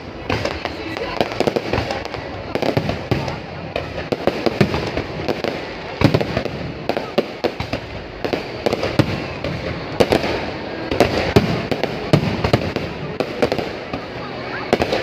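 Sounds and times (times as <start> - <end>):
fireworks bangs and booms: 0.0 - 15.0
rumble of echoing explosions: 0.0 - 15.0.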